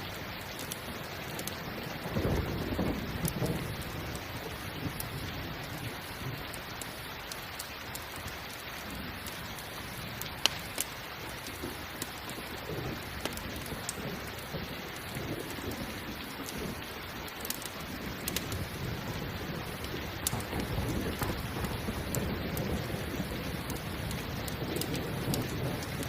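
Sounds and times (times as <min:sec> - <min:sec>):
campfire crackling and popping: 0:00.0 - 0:26.0
steady rain: 0:00.0 - 0:26.0
low thunder rumble: 0:00.8 - 0:07.1, 0:11.3 - 0:26.0.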